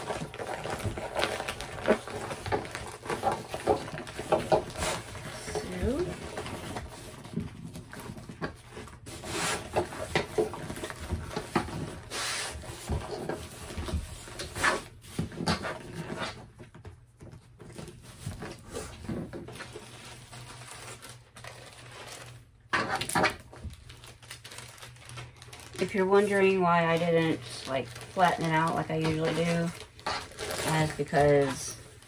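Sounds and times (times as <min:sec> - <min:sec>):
plastic film rustling: 0:00.0 - 0:16.7, 0:17.6 - 0:32.0.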